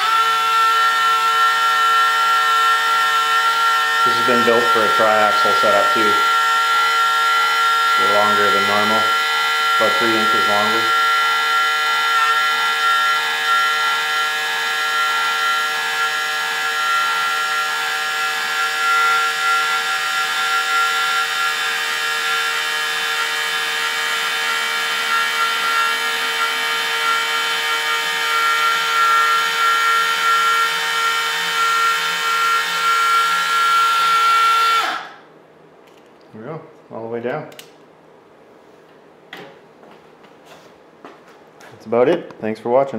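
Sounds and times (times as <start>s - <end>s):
toy truck hoist motor whining: 0.0s - 35.2s.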